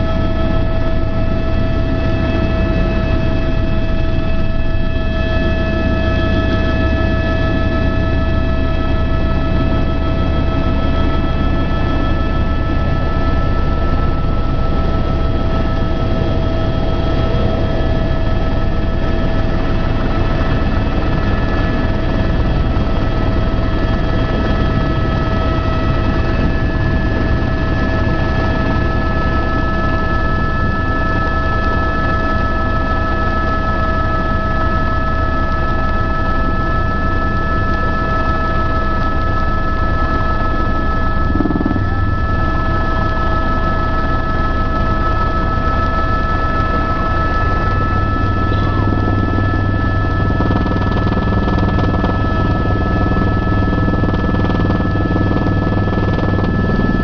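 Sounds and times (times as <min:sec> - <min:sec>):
aircraft engine drone: 0:00.0 - 0:57.0
high steady whining tones: 0:00.0 - 0:57.0.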